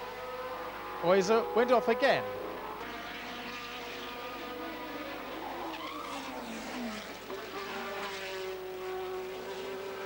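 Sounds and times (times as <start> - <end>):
race car engines: 0.0 - 10.0.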